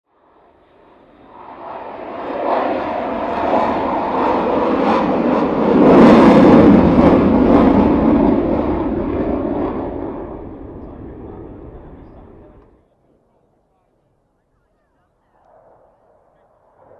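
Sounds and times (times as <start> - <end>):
jet passing overhead: 0.1 - 13.6, 14.9 - 16.9.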